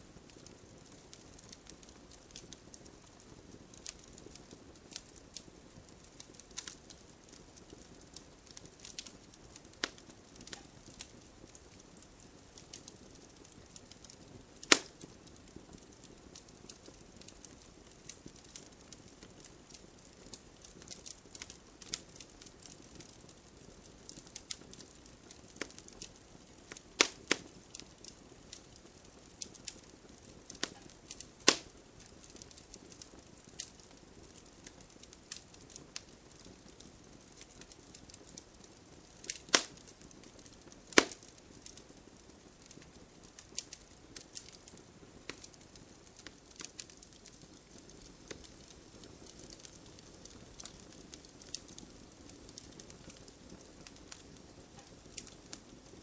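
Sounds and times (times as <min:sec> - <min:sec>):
bonfire crackling: 0:00.0 - 0:56.0
light rain hiss: 0:00.0 - 0:56.0.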